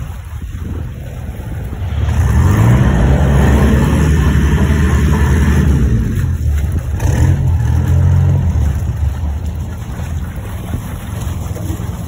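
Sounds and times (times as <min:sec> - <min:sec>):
ferry engine rumbling: 0:00.0 - 0:12.0.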